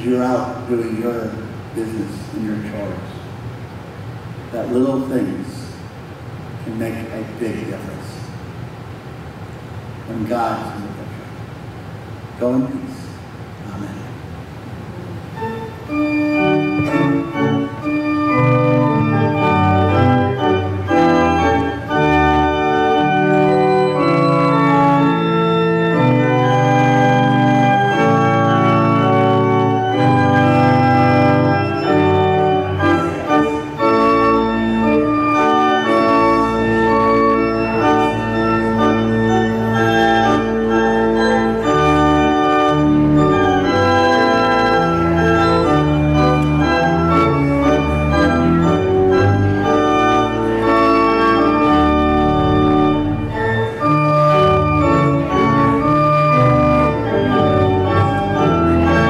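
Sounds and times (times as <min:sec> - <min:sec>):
church organ chords: 0:00.0 - 0:09.1, 0:15.2 - 0:59.0.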